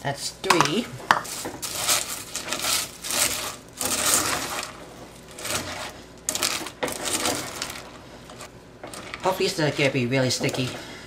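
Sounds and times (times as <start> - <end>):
spoon scraping metal pot: 0.6 - 11.0
cornflakes crunching: 1.2 - 11.0.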